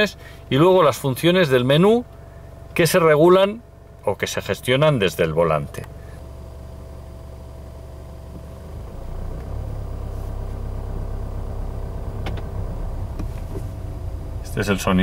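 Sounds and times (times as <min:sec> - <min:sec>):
diesel car engine idling: 0:00.0 - 0:15.0.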